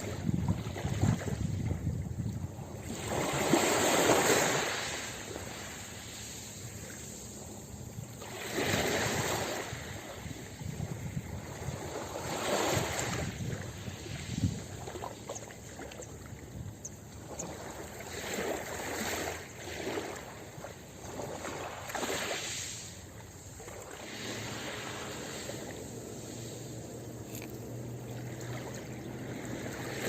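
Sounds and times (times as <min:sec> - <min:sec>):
ocean waves on a beach: 0:00.0 - 0:30.0.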